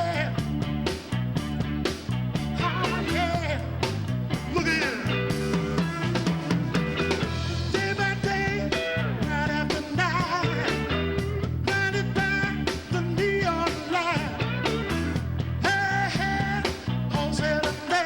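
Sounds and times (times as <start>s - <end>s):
bass guitar: 0.0s - 18.0s
electric guitar lead: 0.0s - 18.0s
steady drum beat: 0.0s - 18.0s.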